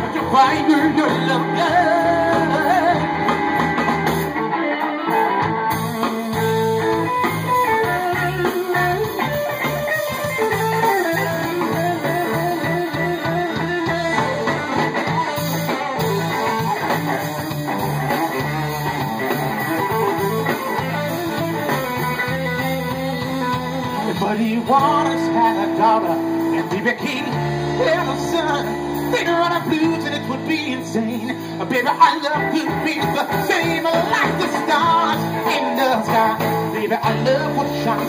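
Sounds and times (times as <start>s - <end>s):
bass guitar: 0.0s - 38.0s
drum kit: 0.0s - 38.0s
electric guitar: 0.0s - 38.0s.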